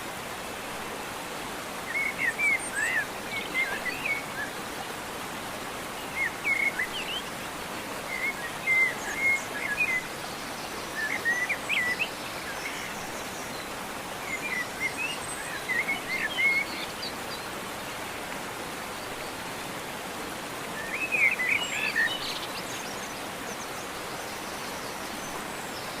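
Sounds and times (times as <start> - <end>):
steady outdoor hiss: 0.0 - 26.0
songbirds chirping: 0.2 - 26.0.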